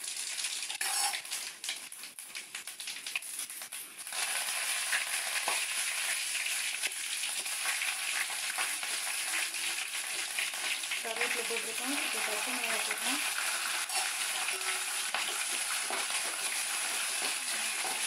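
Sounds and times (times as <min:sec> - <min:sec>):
hot oil sizzling and crackling: 0:00.0 - 0:18.0.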